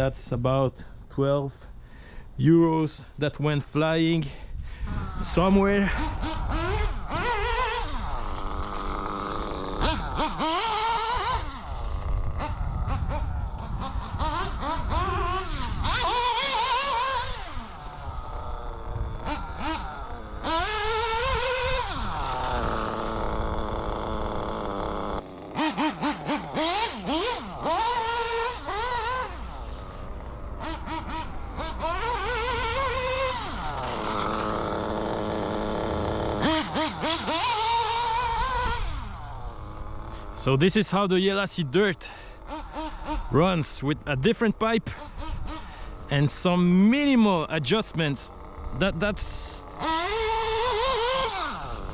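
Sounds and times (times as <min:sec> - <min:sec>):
engine throttle blips: 0:03.0 - 0:51.9
rc car nitro engine revving: 0:04.6 - 0:51.9.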